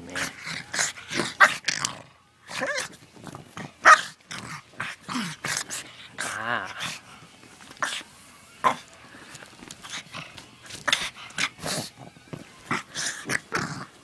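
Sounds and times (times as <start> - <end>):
dog play noises: 0.0 - 14.0.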